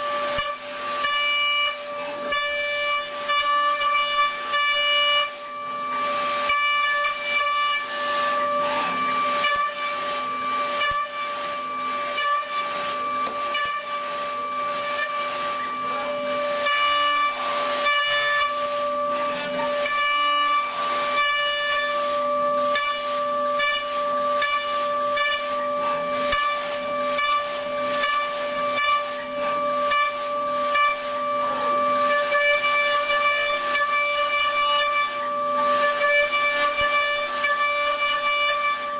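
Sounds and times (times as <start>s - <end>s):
machine high whine: 0.0s - 38.9s
noisy machine strokes: 0.0s - 38.9s.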